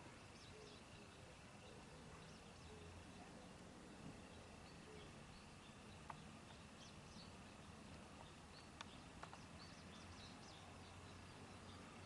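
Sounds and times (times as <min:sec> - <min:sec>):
low steady hum: 0:00.0 - 0:12.0
small birds chirping: 0:00.0 - 0:12.0.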